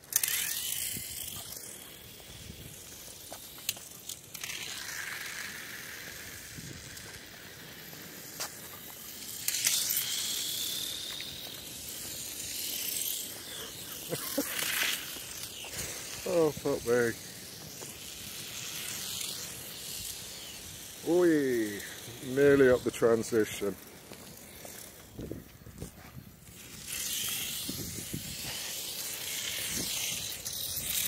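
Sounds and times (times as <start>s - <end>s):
toy car motors whirring: 0.0s - 31.0s.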